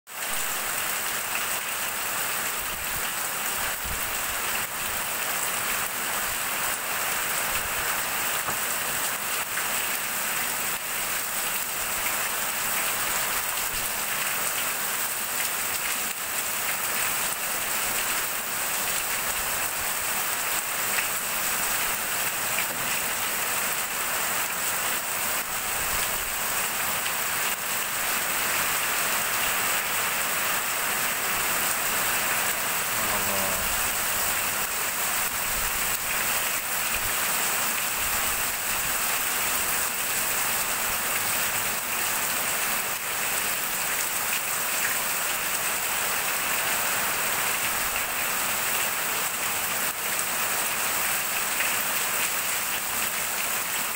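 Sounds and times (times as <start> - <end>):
heavy rain on corrugated roof: 0.1 - 53.9.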